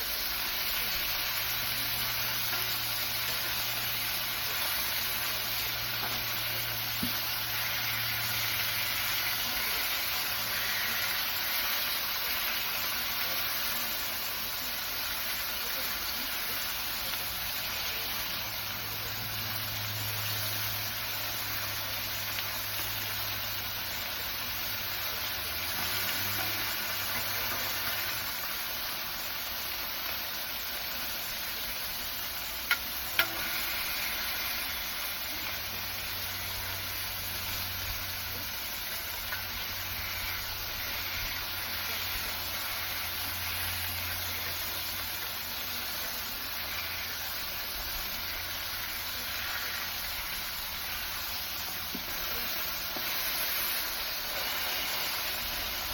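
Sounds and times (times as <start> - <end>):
burgers sizzling on a griddle: 0.0 - 55.9.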